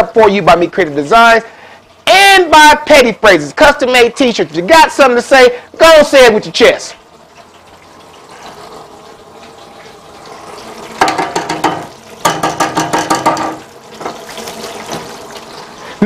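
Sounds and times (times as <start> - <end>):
oil bubbling and sizzling in fryer: 0.0 - 16.0.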